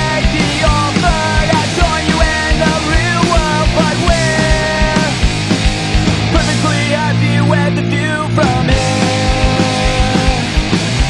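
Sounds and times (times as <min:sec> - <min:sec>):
rock music: 0:00.0 - 0:11.0.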